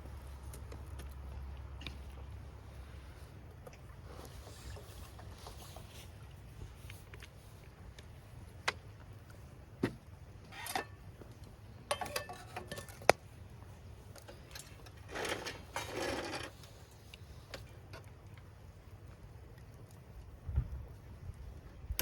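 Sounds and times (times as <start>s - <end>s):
rustle: 0.0s - 22.0s.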